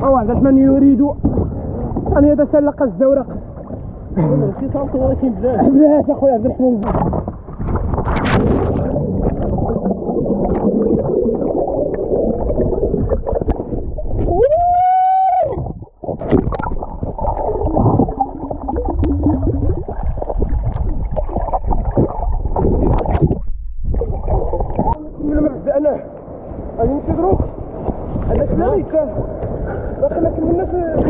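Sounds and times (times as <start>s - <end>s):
bubbling and crackling: 0.0s - 25.2s
muffled underwater water rumble: 0.0s - 31.0s.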